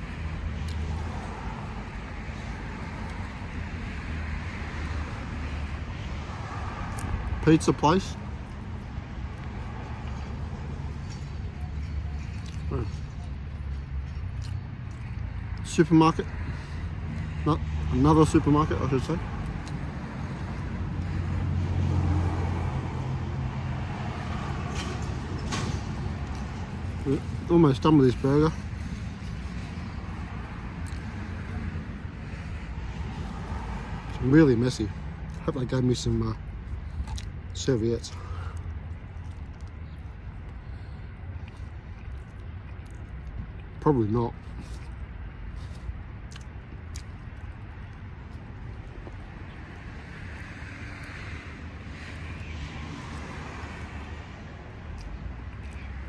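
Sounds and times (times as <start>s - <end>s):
road traffic noise: 0.0s - 56.0s
vehicle engine hum: 0.0s - 56.0s.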